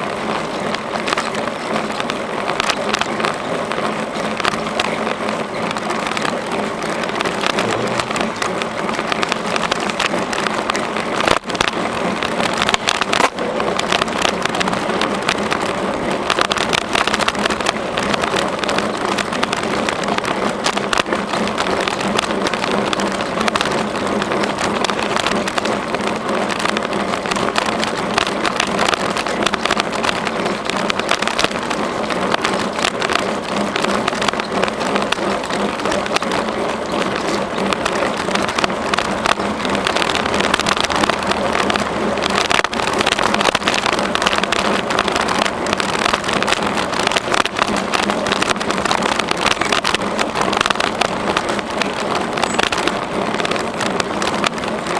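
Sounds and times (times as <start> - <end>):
bicycle rattles and knocks: 0.0 - 54.9
bicycle tyres rumbling on trail: 0.0 - 54.9.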